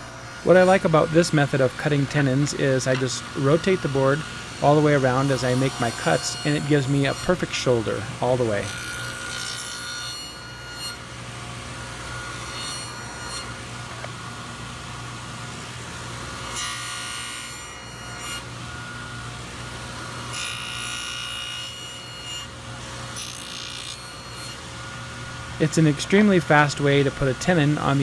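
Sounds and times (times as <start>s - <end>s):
table saw cutting wood: 0.0s - 15.0s, 15.6s - 28.0s.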